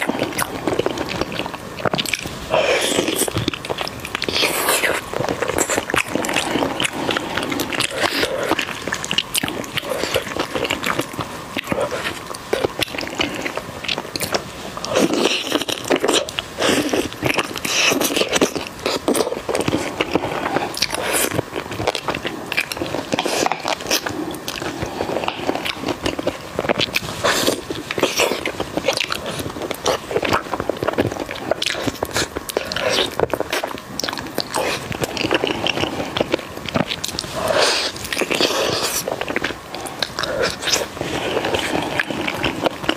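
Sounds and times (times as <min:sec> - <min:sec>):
chewing and mouth clicks: 0:00.0 - 0:42.9.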